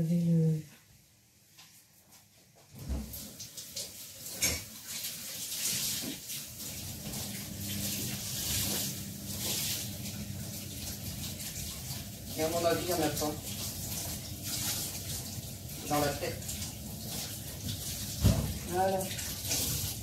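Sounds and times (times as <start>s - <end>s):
kitchen tap running into sink: 2.8s - 20.0s.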